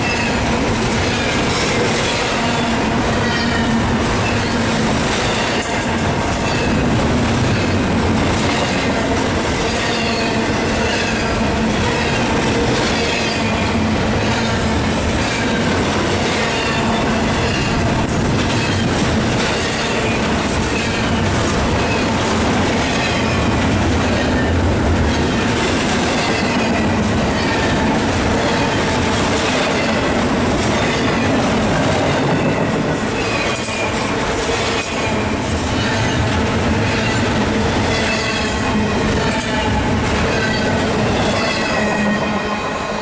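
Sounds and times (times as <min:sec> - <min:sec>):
freight train rumbling past: 0:00.0 - 0:43.0.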